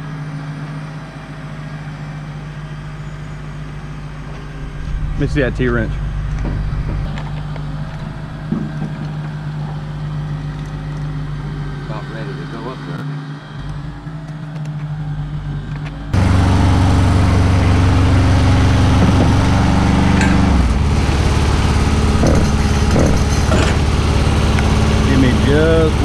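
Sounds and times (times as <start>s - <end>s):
lift engine running hydraulics: 0.0s - 26.0s.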